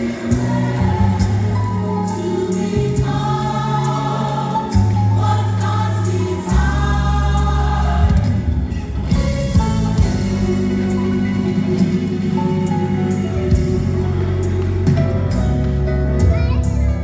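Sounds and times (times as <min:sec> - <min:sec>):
gospel choir singing: 0:00.0 - 0:15.8.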